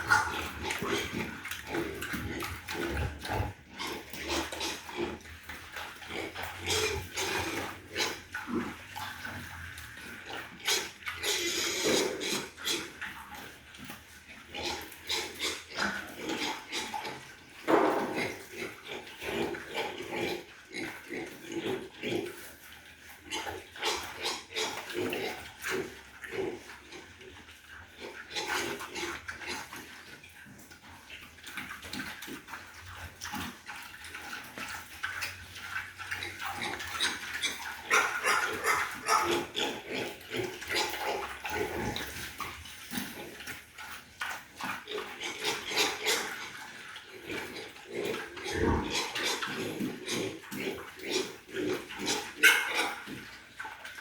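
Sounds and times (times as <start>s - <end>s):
pigs grunting and squealing: 0.0s - 54.0s.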